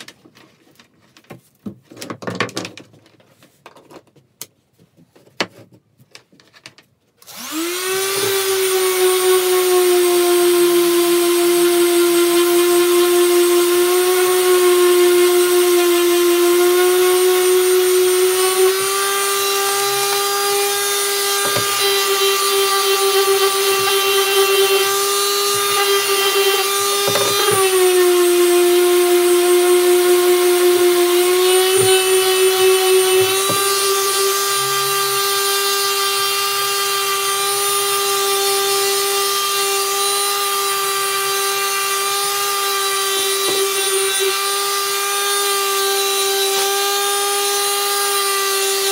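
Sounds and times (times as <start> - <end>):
electric sander whining: 7.2 - 48.9.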